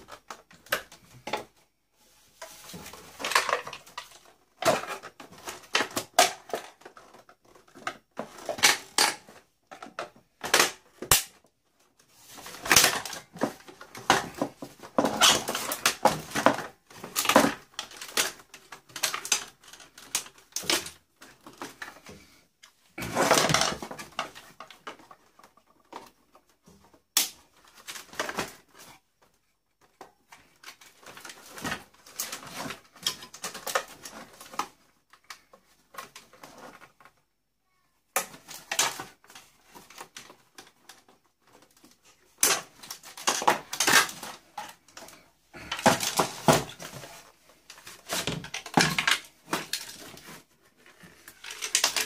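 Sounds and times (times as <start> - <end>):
plastic and metal parts clattering: 0.0 - 37.3, 38.1 - 52.0.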